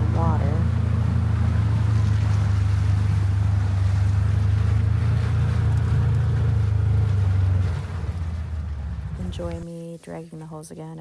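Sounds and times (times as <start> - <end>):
utility vehicle engine droning: 0.0 - 9.7.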